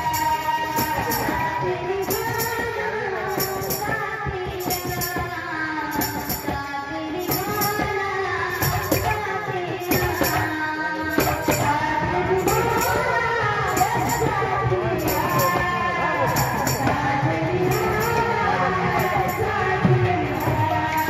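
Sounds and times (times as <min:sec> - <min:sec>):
person singing devotional melody: 0:00.0 - 0:21.0.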